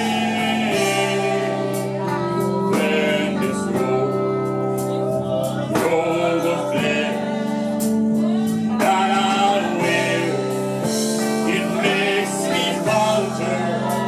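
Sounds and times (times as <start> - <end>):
gospel song with singing: 0.0 - 14.0.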